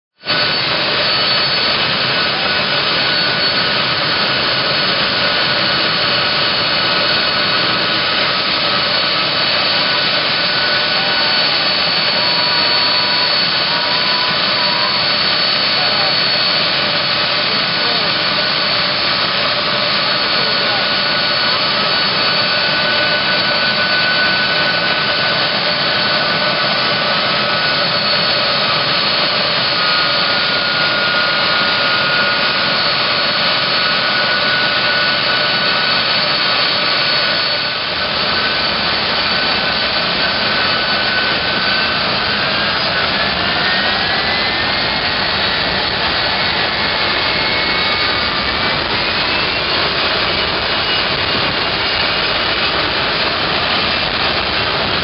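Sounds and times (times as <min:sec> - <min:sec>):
jet engines whining: 0:00.2 - 0:55.0.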